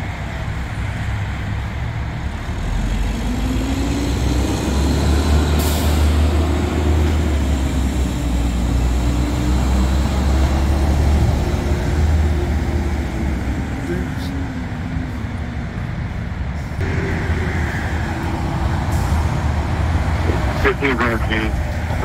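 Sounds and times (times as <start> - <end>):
train rumbling over overpass: 0.0 - 22.0
truck passing: 0.0 - 22.0.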